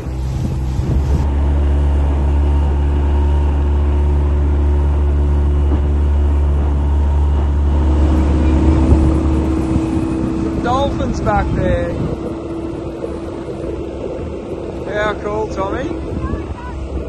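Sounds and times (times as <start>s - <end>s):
outboard motor droning: 0.0s - 17.0s
water rushing from wake: 0.0s - 17.0s.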